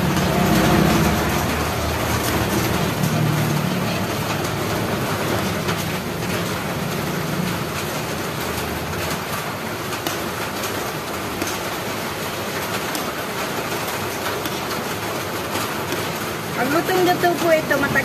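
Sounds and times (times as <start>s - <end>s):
thick mixture bubbling: 0.0s - 17.0s.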